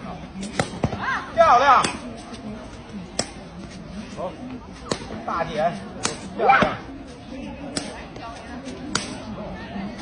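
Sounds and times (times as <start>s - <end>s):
foot kicking shuttlecock: 0.3s - 3.8s, 4.4s - 9.3s.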